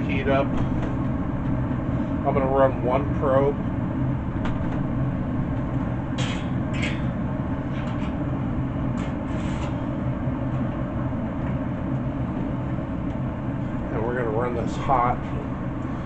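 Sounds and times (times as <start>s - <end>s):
pellet smoker humming: 0.0s - 16.0s.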